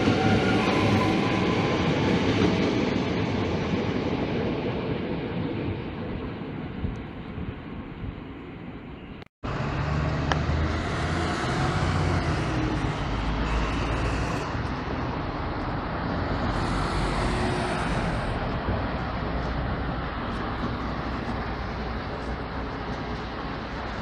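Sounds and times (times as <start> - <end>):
buses driving past: 0.0 - 24.0
street traffic: 0.0 - 24.0
train approaching: 0.0 - 24.0.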